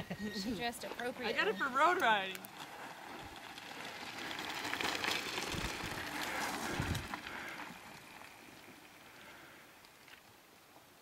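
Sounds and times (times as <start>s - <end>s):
bike tyres crunching over gravel: 0.1s - 11.0s.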